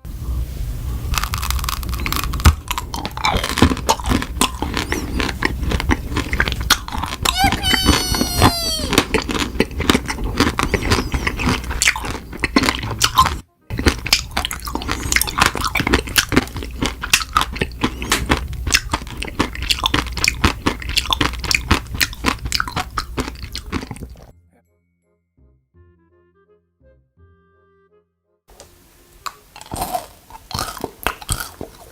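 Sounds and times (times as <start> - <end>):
mouth crunching hard food: 1.0 - 24.3, 29.2 - 31.9.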